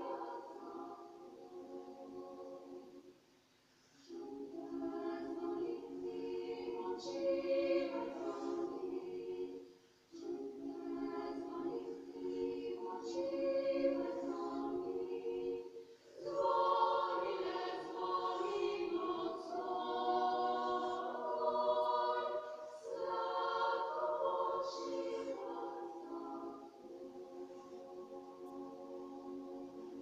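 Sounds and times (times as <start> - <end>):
women's choir singing: 0.0 - 3.2, 4.0 - 30.0.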